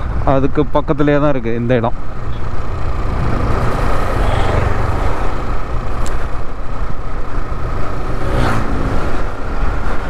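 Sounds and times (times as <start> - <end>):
motorcycle running: 0.0 - 10.0.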